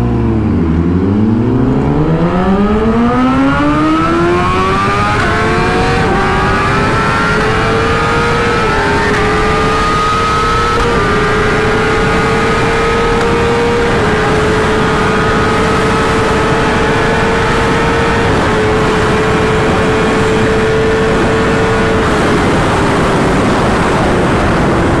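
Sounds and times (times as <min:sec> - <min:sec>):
motorcycle engine at full throttle: 0:00.0 - 0:25.0
wind rush on microphone: 0:00.2 - 0:25.0.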